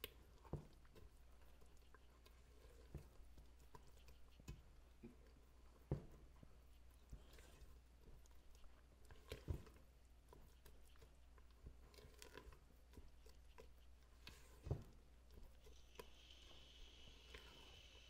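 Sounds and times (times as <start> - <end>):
batter squishing: 0.0 - 18.0
spatula scraping bowl: 0.0 - 18.0.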